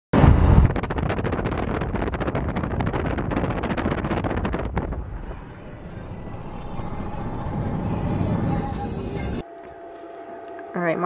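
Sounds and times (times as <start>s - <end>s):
road and wind rumble: 0.2s - 9.4s
wind buffeting microphone: 0.2s - 9.4s.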